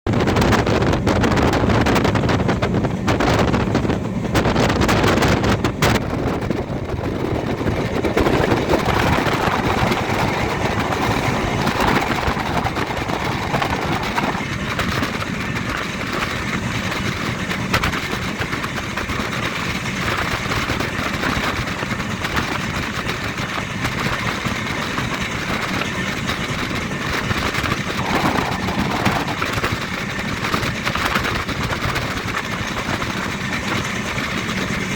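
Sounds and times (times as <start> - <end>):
train wheels on track: 0.1 - 34.9.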